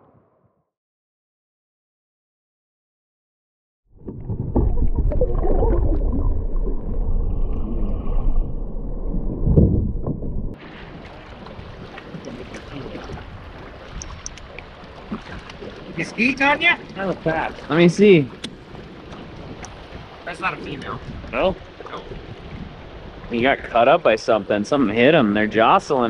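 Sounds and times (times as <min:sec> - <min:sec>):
muffled underwater water rushing: 0:03.9 - 0:26.0
wind: 0:03.9 - 0:26.0.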